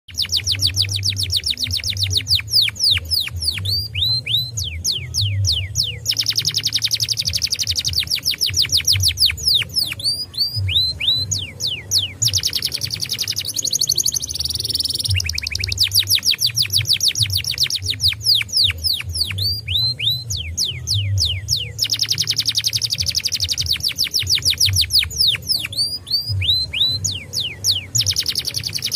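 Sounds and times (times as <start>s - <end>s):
canary singing trills: 0.0s - 28.9s.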